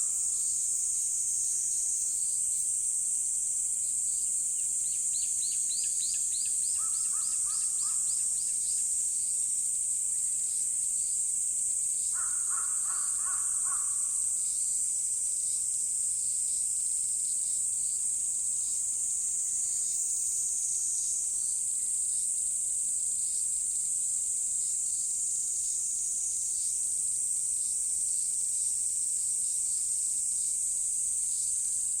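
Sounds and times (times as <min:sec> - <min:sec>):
insects chorus: 0:00.0 - 0:32.0.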